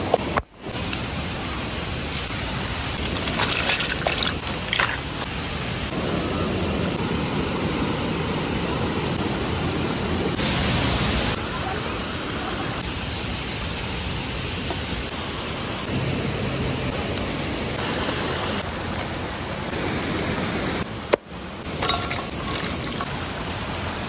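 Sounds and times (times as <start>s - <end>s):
waterfall rushing: 0.7s - 24.0s.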